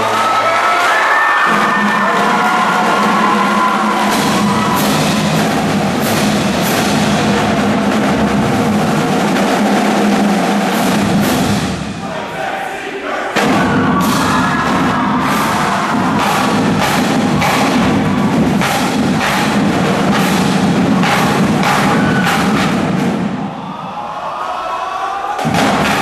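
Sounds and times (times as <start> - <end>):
marching drumline: 0.0 - 12.2, 13.4 - 23.7, 25.4 - 26.0.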